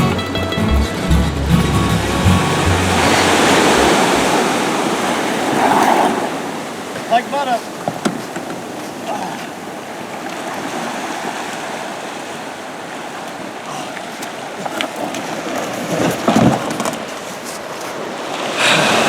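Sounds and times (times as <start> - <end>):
water lapping around a kayak: 2.5 - 19.0.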